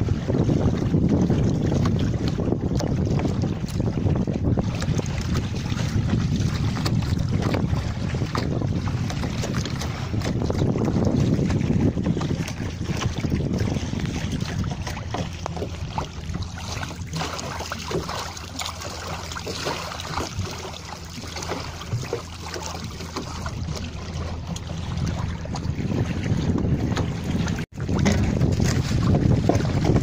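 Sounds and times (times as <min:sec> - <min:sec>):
water splashing against boat hull: 0:00.0 - 0:30.0
wind buffeting microphone: 0:00.0 - 0:30.0.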